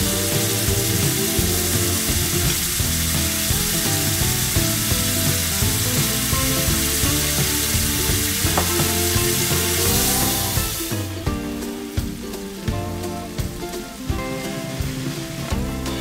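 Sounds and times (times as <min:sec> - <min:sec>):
background music: 0:00.0 - 0:16.0
food sizzling in oily pan: 0:00.0 - 0:16.0.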